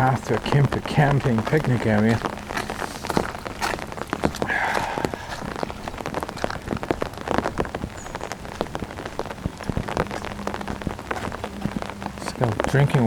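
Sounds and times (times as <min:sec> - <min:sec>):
heavy rain falling: 0:00.0 - 0:13.0
raindrops ticking on surfaces: 0:00.0 - 0:13.0.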